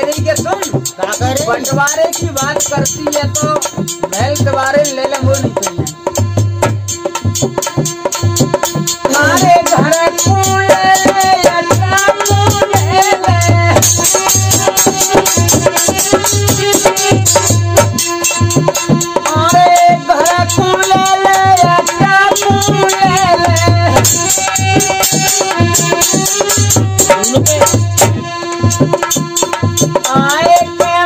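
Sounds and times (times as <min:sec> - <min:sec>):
man singing: 0:00.0 - 0:17.9, 0:18.6 - 0:31.0
dholak drum beat: 0:00.0 - 0:31.0
harmonium melody: 0:00.0 - 0:31.0.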